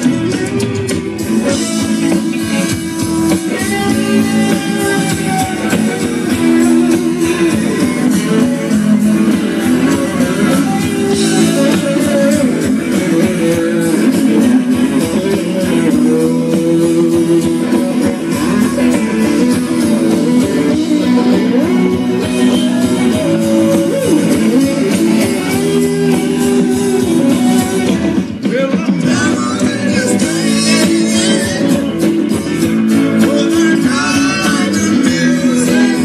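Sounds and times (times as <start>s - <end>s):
bass: 0.0s - 36.0s
drums: 0.0s - 36.0s
electric guitars: 0.0s - 36.0s.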